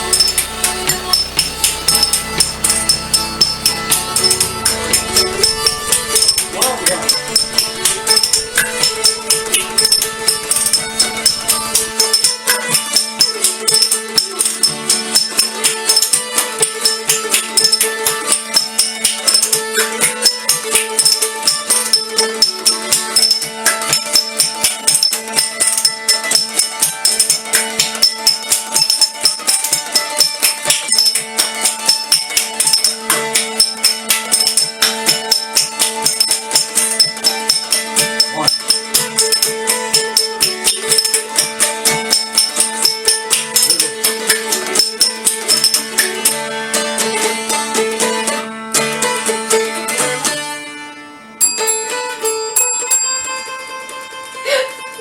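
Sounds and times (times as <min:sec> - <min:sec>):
fast jingling rhythm: 0:00.0 - 0:48.0
held drone notes: 0:00.0 - 0:48.4.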